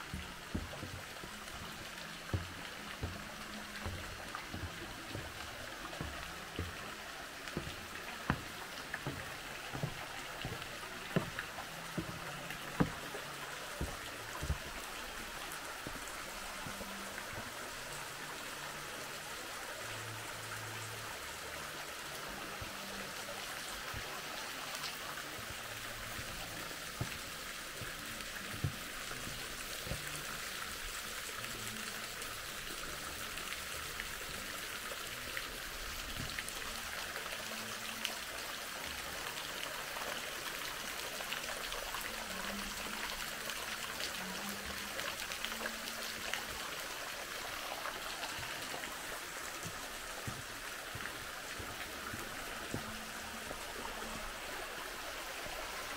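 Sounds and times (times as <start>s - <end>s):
running water trickling: 0.0s - 55.9s.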